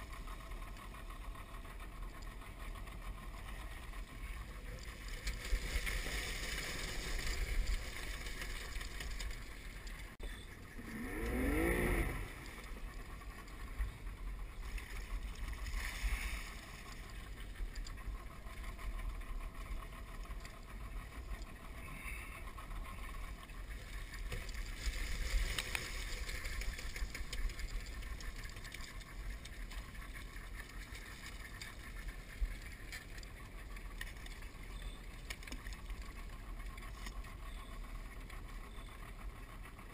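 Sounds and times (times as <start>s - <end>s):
wind and water hiss: 0.0s - 38.3s
muffled outboard motor running: 0.0s - 39.9s.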